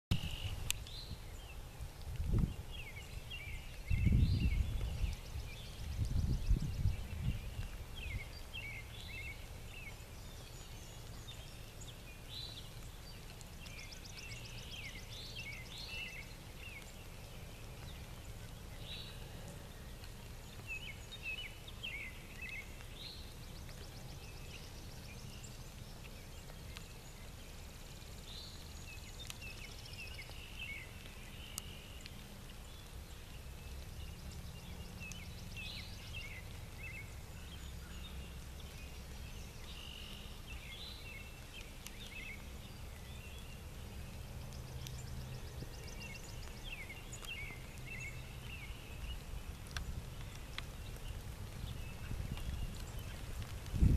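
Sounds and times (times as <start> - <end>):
low outdoor rumble: 0.1 - 53.9
songbirds chirping: 0.1 - 53.9.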